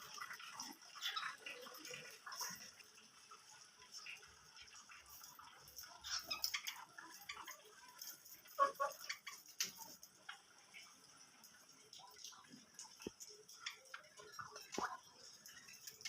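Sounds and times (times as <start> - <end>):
birds pecking at food: 0.0 - 16.0.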